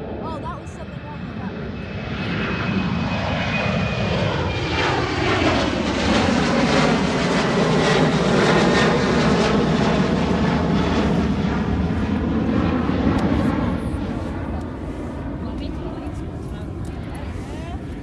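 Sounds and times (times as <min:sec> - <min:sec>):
jet engines at takeoff power: 0:00.0 - 0:18.0.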